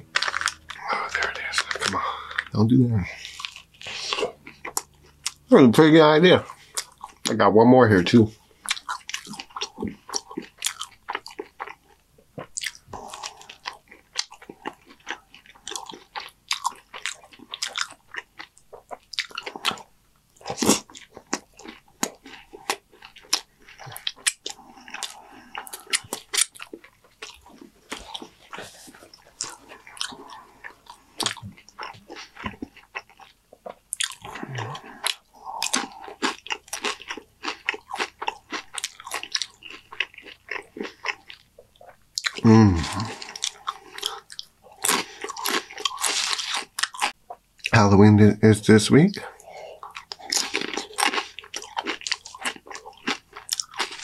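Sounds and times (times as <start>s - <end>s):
crunchy chewing: 0.0s - 5.4s, 8.5s - 47.7s, 49.2s - 54.0s.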